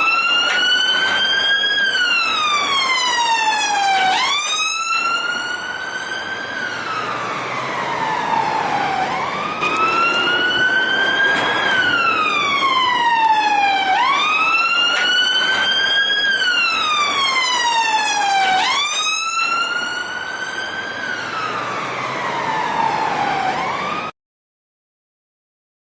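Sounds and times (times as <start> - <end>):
police car siren wailing: 0.0 - 24.2.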